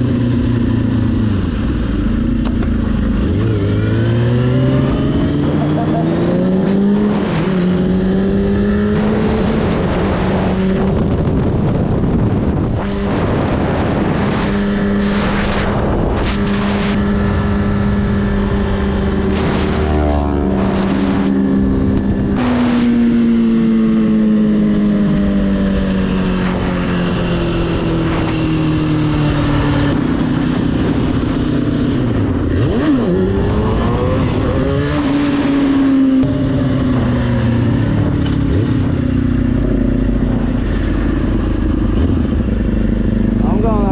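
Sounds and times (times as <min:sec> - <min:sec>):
motorcycle engine revving: 0:00.0 - 0:43.9
wind rush: 0:00.0 - 0:43.9.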